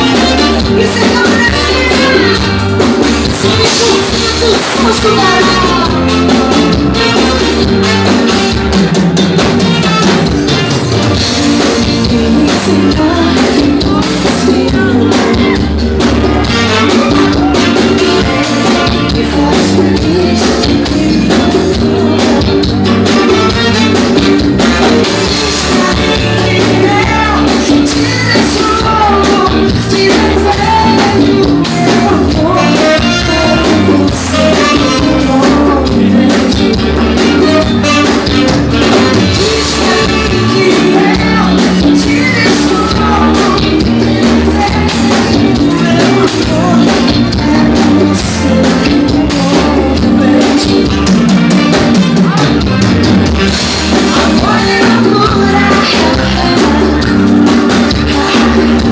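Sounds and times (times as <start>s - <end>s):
person singing: 0.0s - 9.0s, 9.8s - 58.9s
electric guitar: 0.0s - 58.9s
live band playing: 0.0s - 58.9s.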